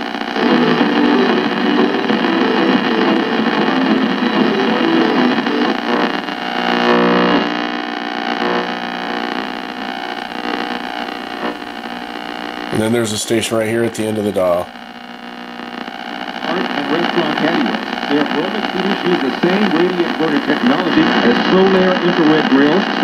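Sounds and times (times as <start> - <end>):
radio static and hiss: 0.0 - 23.0
steady hum: 0.0 - 23.0
weak radio station: 0.0 - 23.0.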